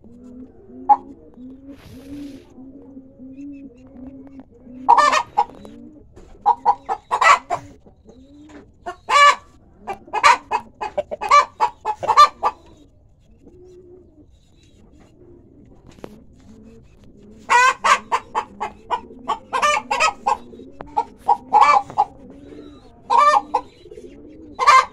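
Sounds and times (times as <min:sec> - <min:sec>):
chickens squawking clucks: 0:00.0 - 0:24.9
soft chicken clucks: 0:00.0 - 0:24.9.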